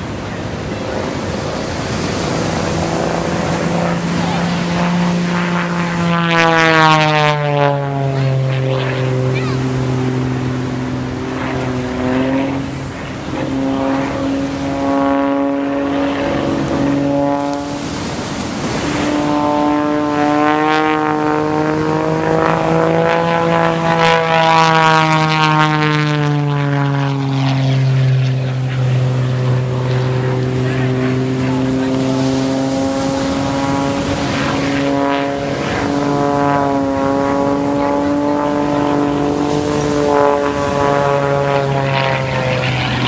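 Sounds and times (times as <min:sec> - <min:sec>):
propeller plane engine droning: 0:00.0 - 0:43.0.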